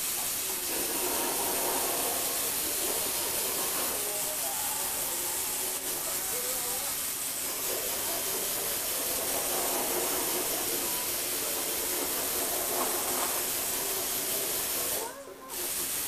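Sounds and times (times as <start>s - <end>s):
steady hiss: 0.0s - 16.0s
toy motors and gears whirring: 0.0s - 16.0s.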